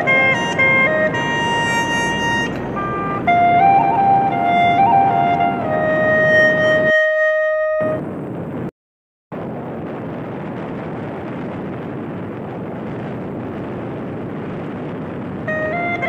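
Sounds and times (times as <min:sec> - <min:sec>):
vehicle wind and road noise: 0:00.0 - 0:08.7, 0:09.3 - 0:16.0.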